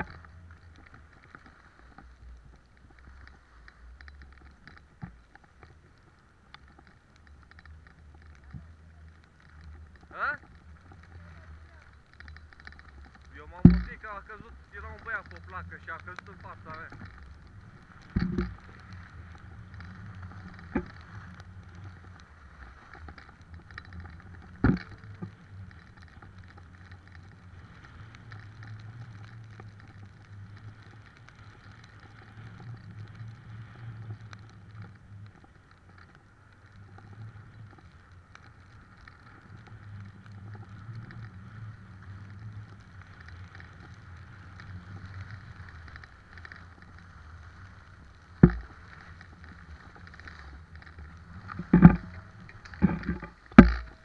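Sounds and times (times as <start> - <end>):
skis sliding over snow: 0.0 - 54.0.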